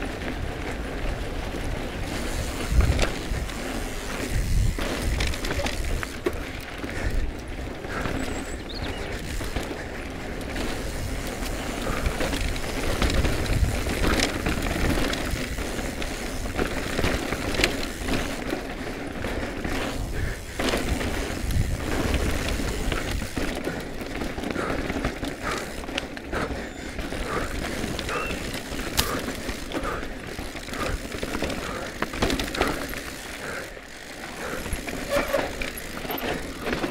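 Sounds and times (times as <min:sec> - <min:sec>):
bike rattling: 0:00.0 - 0:36.9
bike tyres rumbling over dirt: 0:00.0 - 0:36.9.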